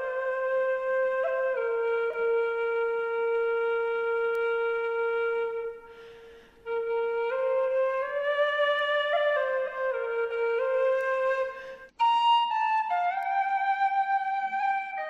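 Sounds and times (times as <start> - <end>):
solo flute: 0.0 - 15.0.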